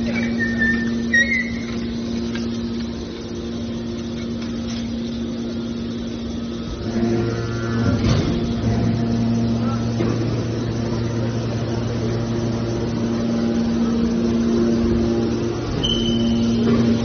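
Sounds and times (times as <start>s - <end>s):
deep machine drone: 0.0s - 17.0s
hydraulic pump humming: 0.0s - 17.0s.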